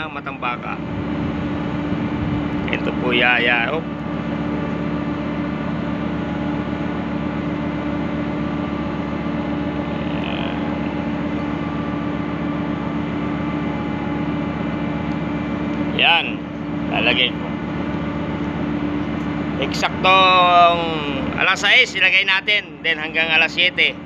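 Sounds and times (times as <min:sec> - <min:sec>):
ship machinery droning: 0:00.0 - 0:24.0.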